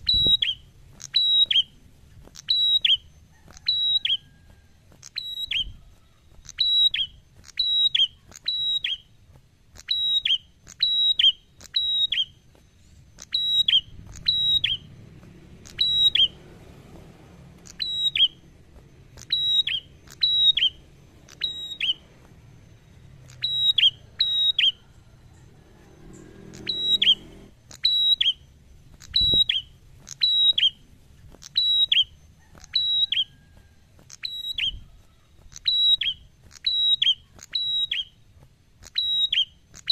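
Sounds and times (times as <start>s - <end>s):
bird whistled calls: 0.0s - 9.2s, 9.8s - 15.0s, 15.6s - 16.5s, 17.6s - 38.2s, 38.8s - 39.9s.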